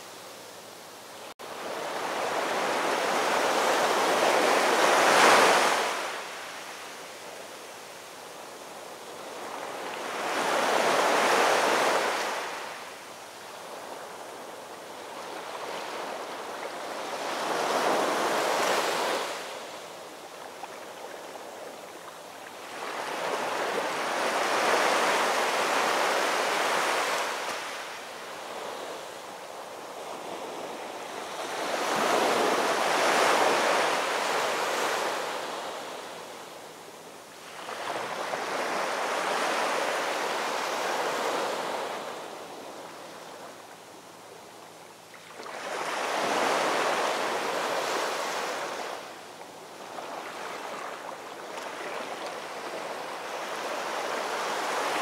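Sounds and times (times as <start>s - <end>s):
waves breaking and washing in: 0.0s - 55.0s.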